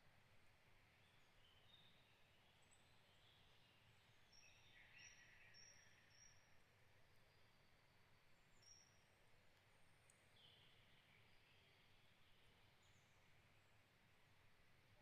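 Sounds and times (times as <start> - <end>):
distant songbirds chirping: 0.2 - 15.0.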